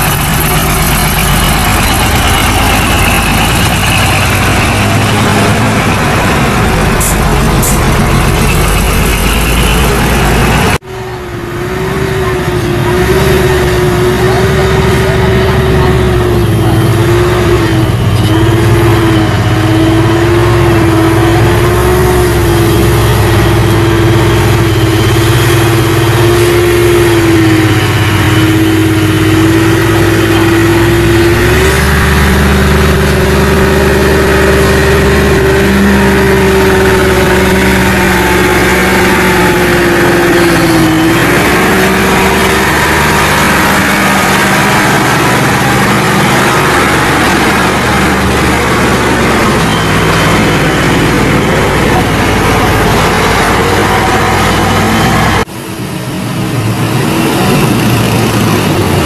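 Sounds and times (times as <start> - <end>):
diesel truck engine labouring: 0.0 - 59.0.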